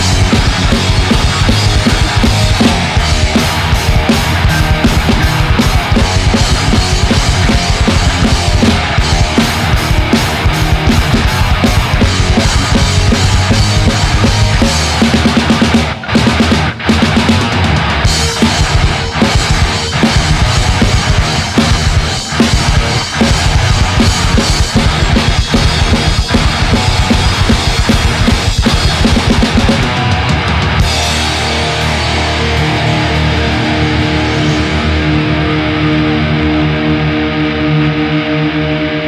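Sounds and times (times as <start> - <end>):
thrash metal band playing: 0.0 - 39.0.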